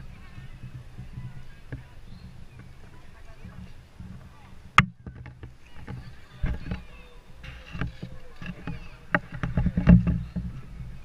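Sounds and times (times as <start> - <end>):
faint spectator voices: 0.0 - 11.0
wind rumble on microphone: 0.0 - 11.0.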